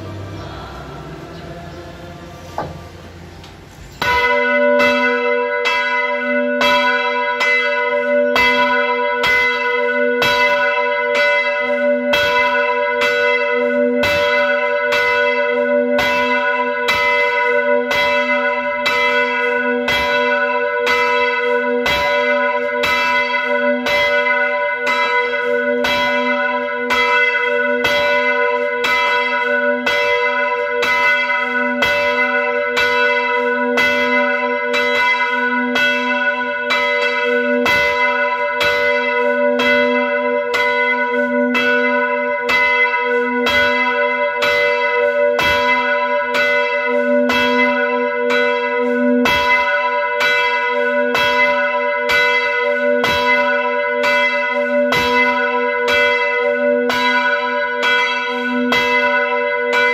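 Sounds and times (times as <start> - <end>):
church bell ringing: 0.0 - 59.9.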